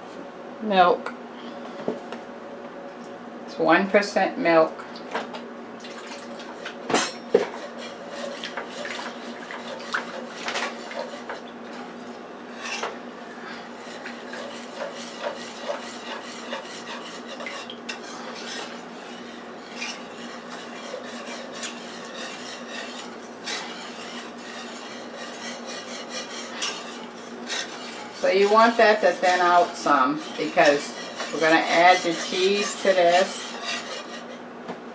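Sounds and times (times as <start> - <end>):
utensil scraping metal frying pan: 6.5 - 34.4.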